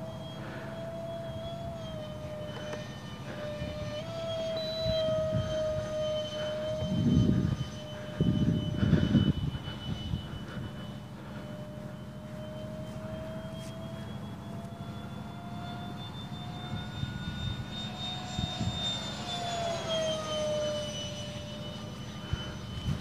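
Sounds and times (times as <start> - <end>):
model jet fans whining: 0.0 - 23.0.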